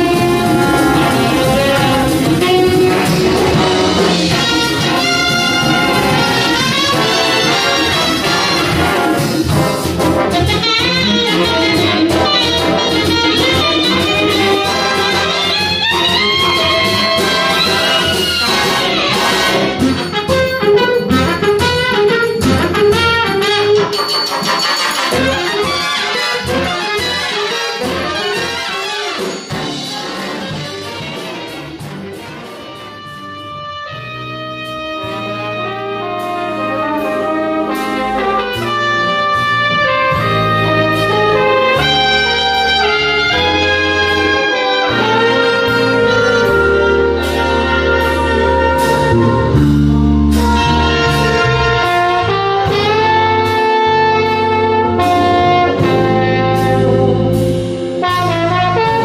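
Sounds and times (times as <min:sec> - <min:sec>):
big band jazz: 0:00.0 - 0:59.0
horns playing held chords: 0:00.0 - 0:59.0.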